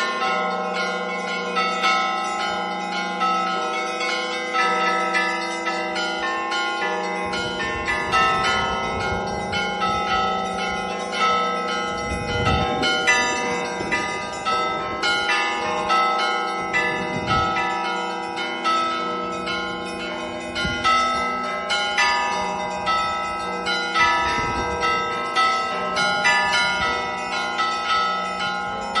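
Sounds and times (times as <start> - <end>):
sustained bell ringing: 0.0 - 29.0.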